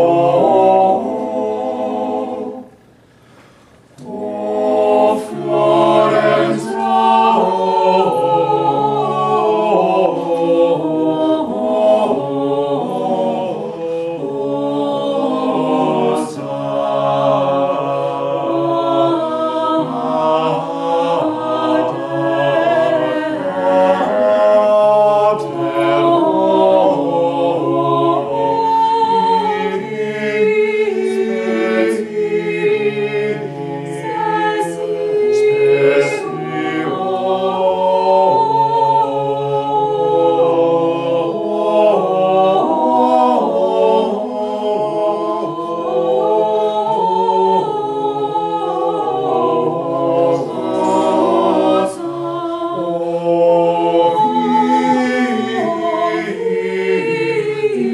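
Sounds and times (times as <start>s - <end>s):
mixed voices singing a cappella: 0.0s - 57.9s.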